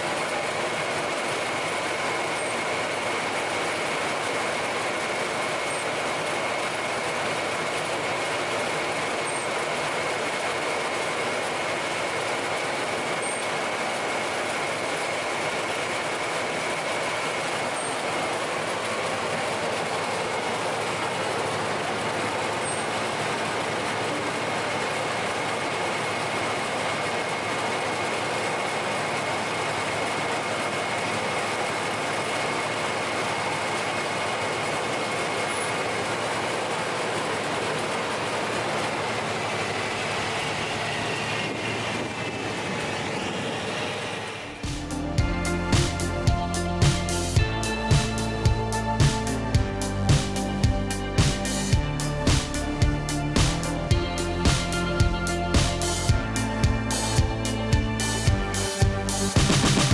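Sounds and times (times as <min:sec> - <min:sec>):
thin high machine whine: 0:00.0 - 0:59.9
woodworking machine running: 0:00.0 - 0:59.9.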